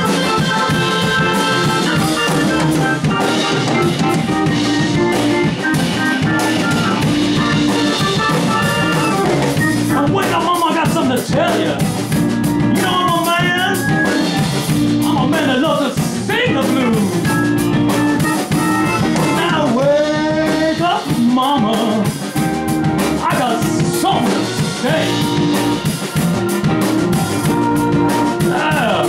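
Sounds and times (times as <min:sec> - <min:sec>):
blues lead guitar bending notes: 0:00.0 - 0:29.0
drums: 0:00.0 - 0:29.0
held backing notes: 0:00.0 - 0:29.0.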